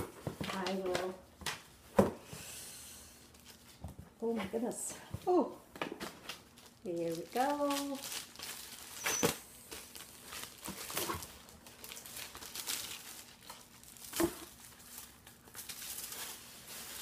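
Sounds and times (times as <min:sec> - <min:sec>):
plastic and paper crinkling: 0:00.0 - 0:01.9, 0:03.3 - 0:04.6, 0:06.0 - 0:17.0.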